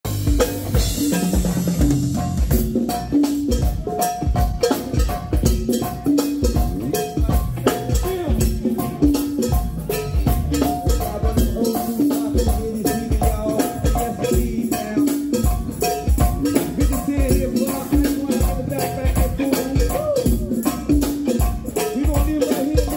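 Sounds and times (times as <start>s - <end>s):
drum kit: 0.0s - 22.9s
live band playing groove: 0.0s - 22.9s
hand percussion: 0.1s - 22.9s.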